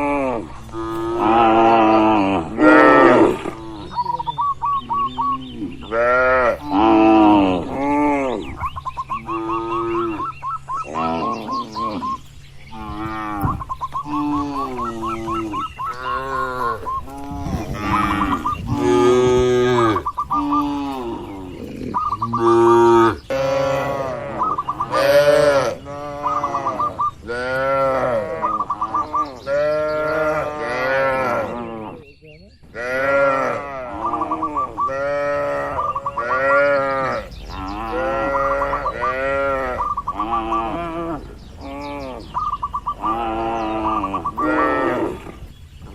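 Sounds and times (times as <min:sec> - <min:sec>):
cattle mooing: 0:00.0 - 0:04.2, 0:04.9 - 0:08.5, 0:09.2 - 0:32.1, 0:32.8 - 0:45.5.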